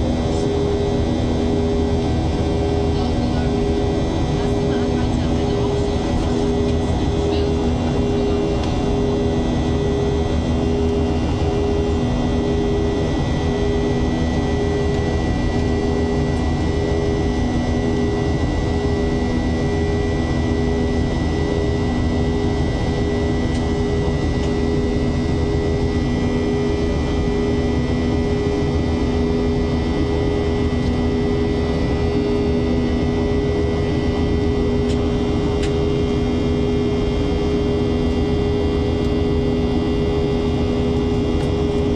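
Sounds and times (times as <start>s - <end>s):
jet engines droning: 0.0s - 41.9s.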